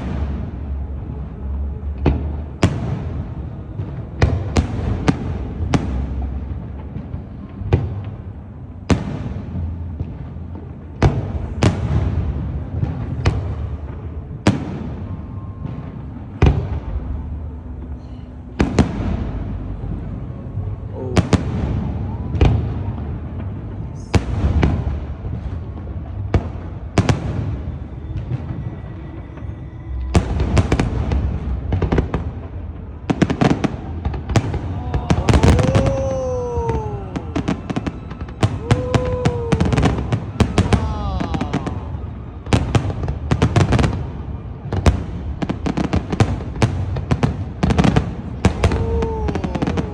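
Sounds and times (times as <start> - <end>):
fireworks booming: 0.0 - 49.9
low rumble of fireworks display: 0.0 - 49.9.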